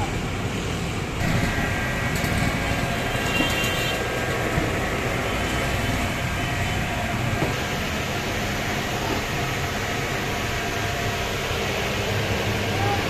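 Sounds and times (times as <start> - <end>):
steady rumbling noise: 0.1 - 13.0.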